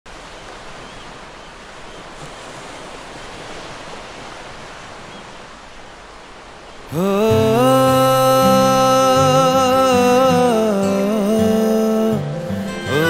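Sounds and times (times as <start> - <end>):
ocean surf washing onto beach: 0.1 - 13.0.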